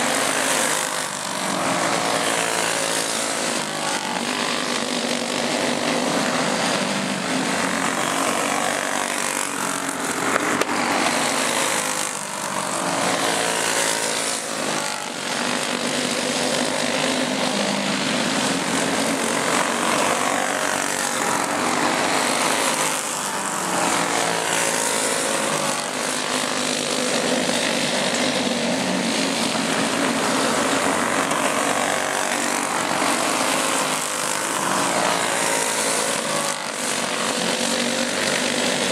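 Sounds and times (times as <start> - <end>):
go-kart engines racing: 0.0 - 38.9.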